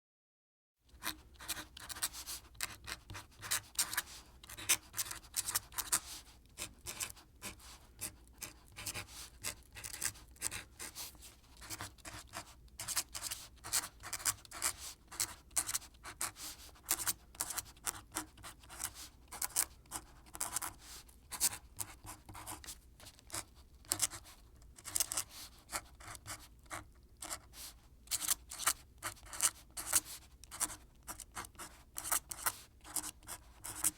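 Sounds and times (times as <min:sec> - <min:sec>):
quill pen scratching paper: 0:01.0 - 0:33.9.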